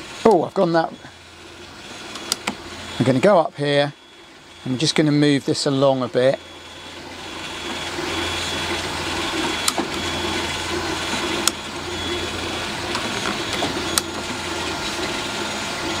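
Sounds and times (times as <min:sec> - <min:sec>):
model locomotive motor humming: 0:00.0 - 0:16.0.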